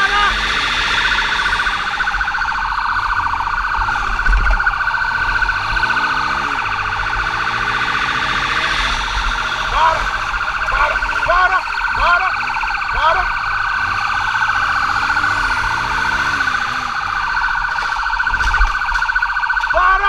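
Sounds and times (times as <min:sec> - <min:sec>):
motorcycle engines rumbling: 0:00.0 - 0:20.0
siren chirps: 0:00.0 - 0:20.0
warbling motorcycle siren: 0:00.0 - 0:20.0
wind: 0:00.0 - 0:20.0.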